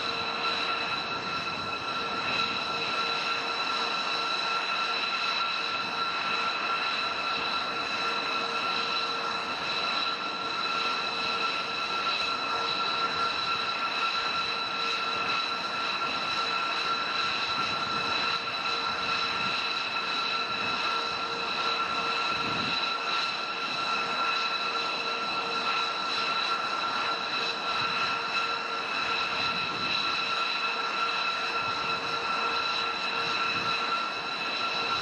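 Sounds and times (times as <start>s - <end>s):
jet engines idling: 0.0s - 35.0s.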